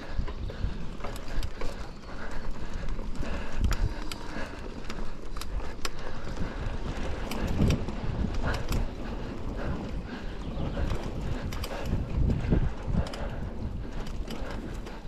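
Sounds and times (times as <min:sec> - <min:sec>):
bike clicks and rattles: 0:00.0 - 0:15.0
bike tyre rumble: 0:00.0 - 0:15.0
wind on microphone: 0:00.0 - 0:15.0.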